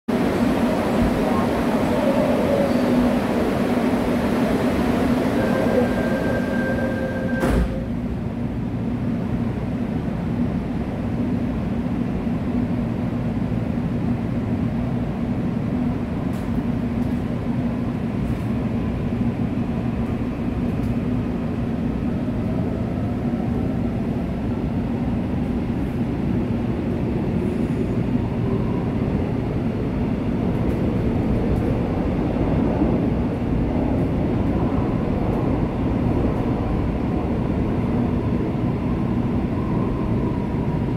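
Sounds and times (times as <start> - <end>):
train wheels rumbling on rail: 0.1 - 40.9.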